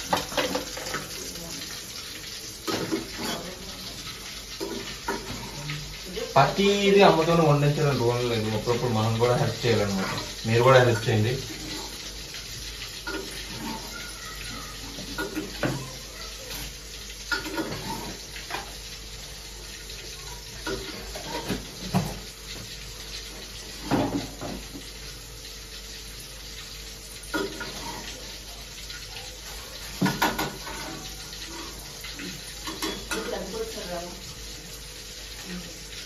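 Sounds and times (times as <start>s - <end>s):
pots and ladle clattering: 0.0s - 19.0s, 19.8s - 25.2s, 26.1s - 33.9s.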